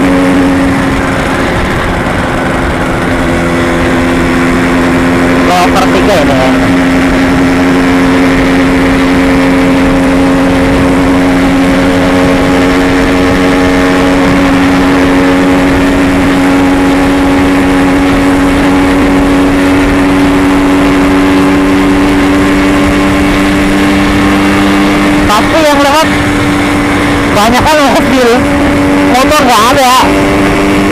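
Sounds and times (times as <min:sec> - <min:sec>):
two-stroke motorcycle engine cruising: 0:00.0 - 0:30.9.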